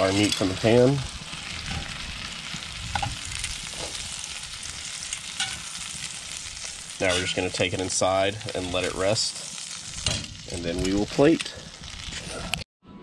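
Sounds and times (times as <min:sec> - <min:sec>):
meat sizzling in butter: 0:00.0 - 0:12.6.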